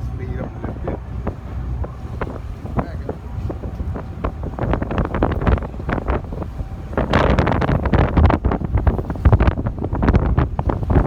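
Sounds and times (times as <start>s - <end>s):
boat engine rumble: 0.0s - 11.0s
water rushing past: 0.0s - 11.0s
wind buffeting microphone: 0.0s - 11.0s.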